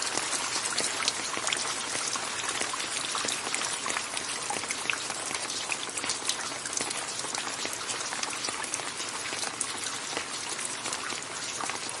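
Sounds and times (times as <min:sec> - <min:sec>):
rain pattering on a surface: 0:00.0 - 0:12.0.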